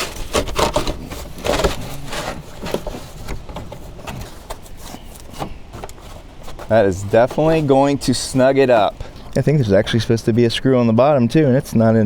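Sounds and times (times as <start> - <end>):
packing foam crackling and rubbing: 0.0 - 10.2.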